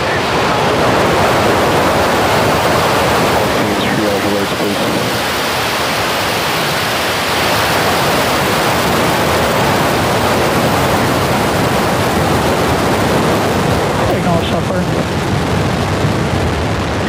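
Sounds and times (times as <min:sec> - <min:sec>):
rocket engines roaring: 0:00.0 - 0:17.0.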